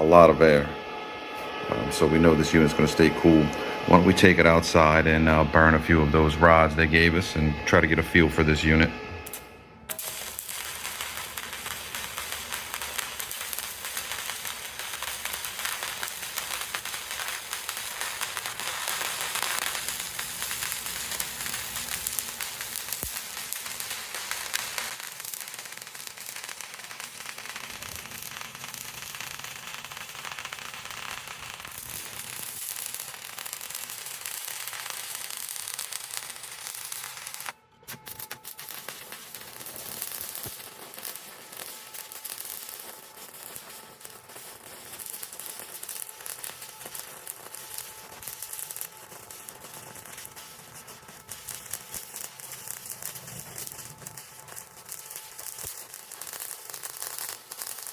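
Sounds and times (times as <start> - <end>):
welding arc crackling: 0.0 - 57.9.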